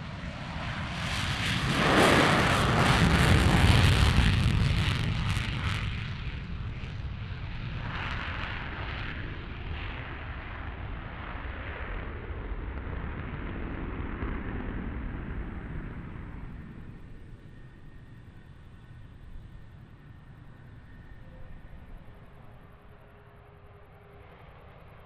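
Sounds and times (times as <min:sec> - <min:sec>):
jet engine roar with crackle: 0:00.0 - 0:25.0.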